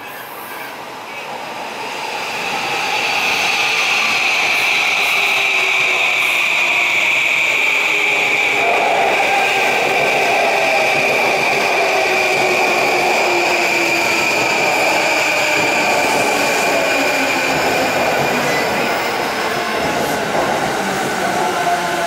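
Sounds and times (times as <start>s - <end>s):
train cars rumbling: 1.6s - 22.0s.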